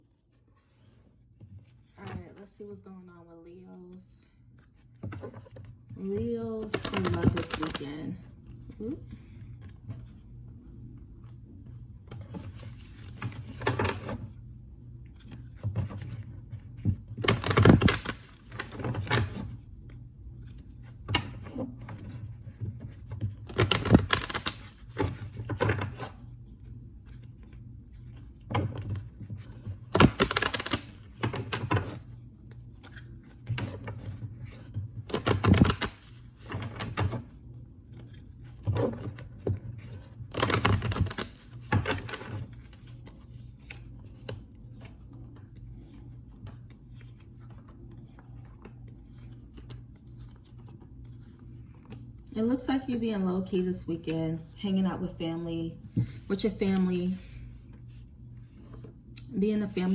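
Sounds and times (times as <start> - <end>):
cards being shuffled: 4.3 - 52.4.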